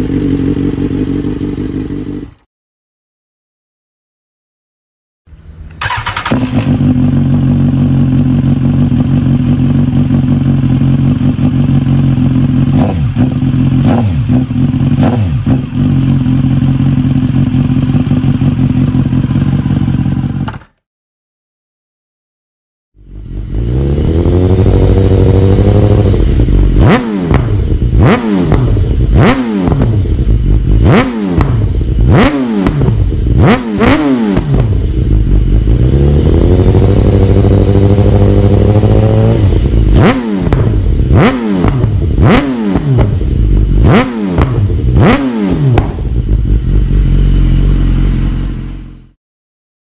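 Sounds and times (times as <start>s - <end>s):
motorcycle engine idling and revving: 0.0s - 2.5s, 5.3s - 20.8s, 23.0s - 49.2s.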